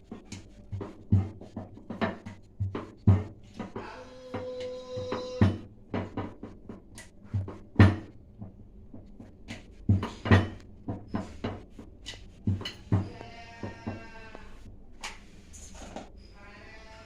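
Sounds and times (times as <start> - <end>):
irregular knocks and clatters: 0.0 - 16.2.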